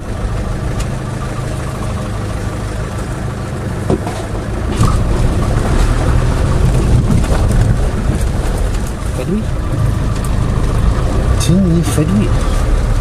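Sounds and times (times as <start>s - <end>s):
vehicle engine running at low speed: 0.0s - 13.0s.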